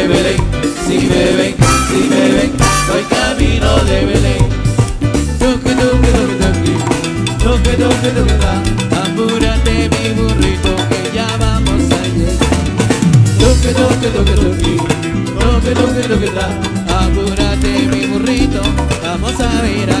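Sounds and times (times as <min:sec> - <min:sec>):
drum kit and bass beat: 0:00.0 - 0:20.0
latin praise band music: 0:00.0 - 0:20.0.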